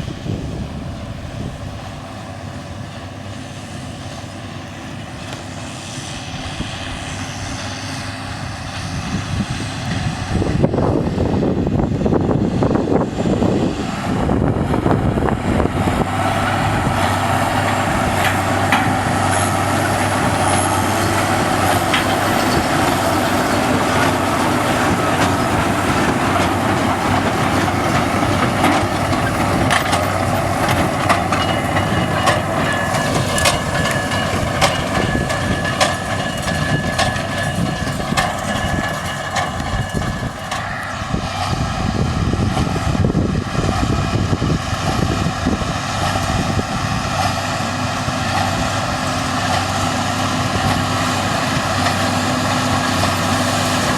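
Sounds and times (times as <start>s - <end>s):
heavy engine running: 0.0s - 53.9s.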